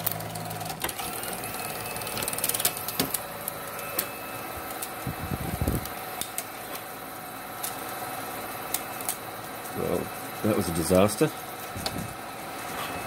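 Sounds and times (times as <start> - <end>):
film projector mechanical hum: 0.0 - 13.0.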